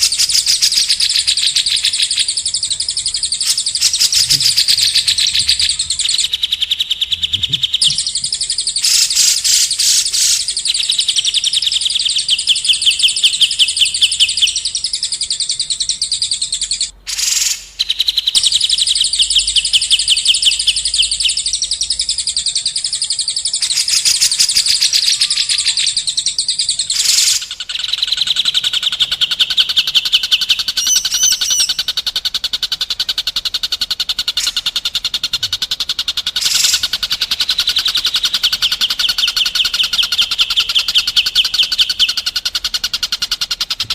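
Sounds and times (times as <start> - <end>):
songbird trilling: 0.0 - 43.9.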